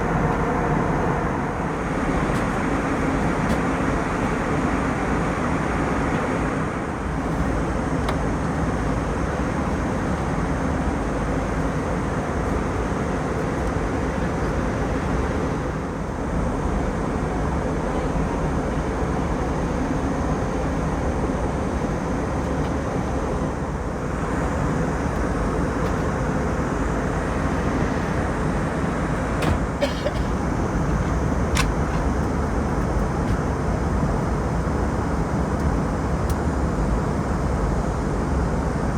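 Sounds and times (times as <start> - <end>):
airliner cabin noise: 0.0 - 38.9.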